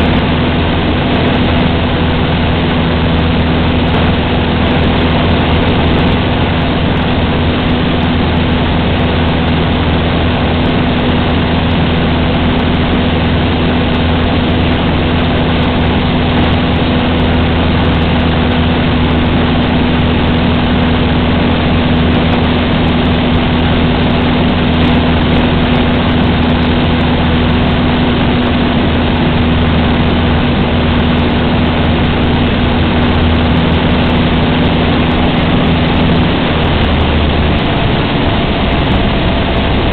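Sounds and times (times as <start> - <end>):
propeller plane engine humming: 0.0 - 39.9.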